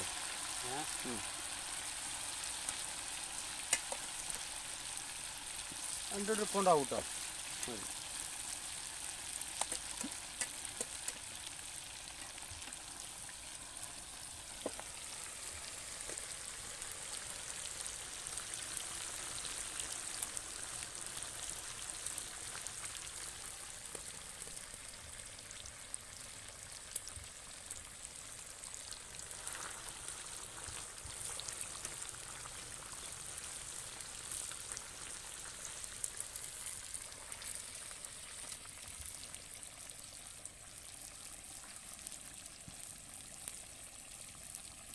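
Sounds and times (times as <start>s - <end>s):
chicken deep-frying in oil: 0.0s - 44.9s.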